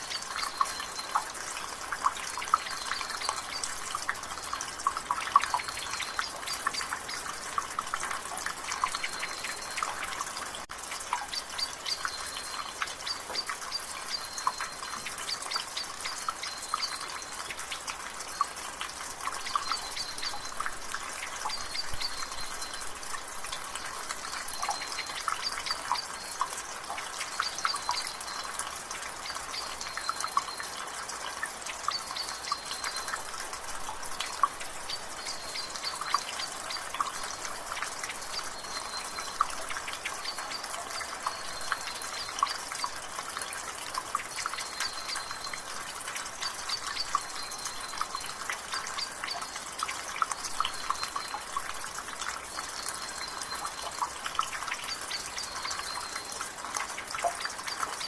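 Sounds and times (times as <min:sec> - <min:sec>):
soft rain hiss: 0:00.0 - 0:58.0
water dripping from rain gutter: 0:00.0 - 0:58.0.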